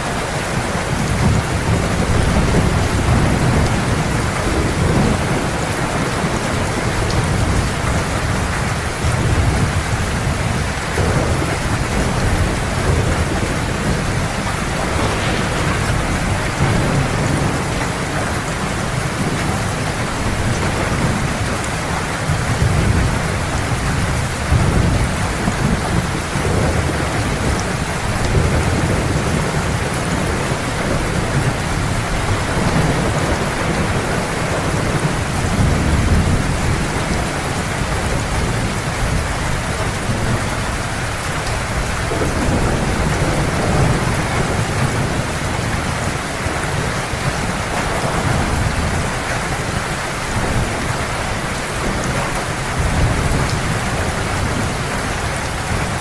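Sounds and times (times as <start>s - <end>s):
heavy rain pouring: 0.0s - 56.0s
thunder rumbling: 0.0s - 56.0s.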